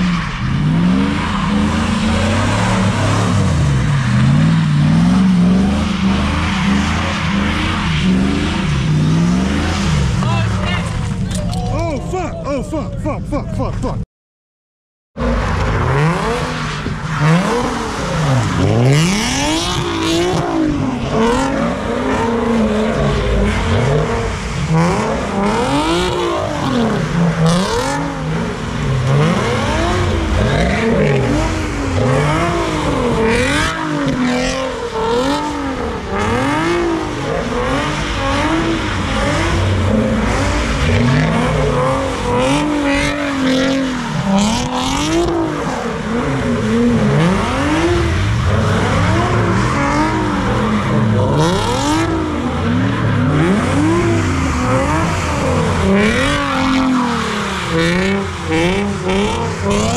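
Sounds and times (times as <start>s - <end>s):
car engine revving hard: 0.0s - 11.0s, 15.2s - 59.9s.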